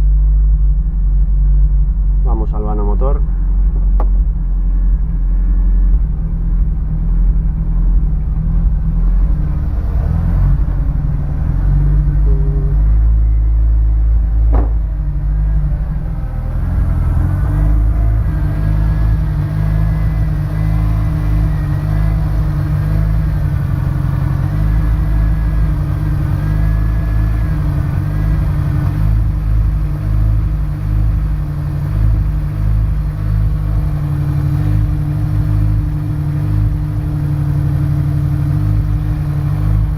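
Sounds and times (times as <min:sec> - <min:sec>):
car engine idling unevenly: 0:00.0 - 0:39.9.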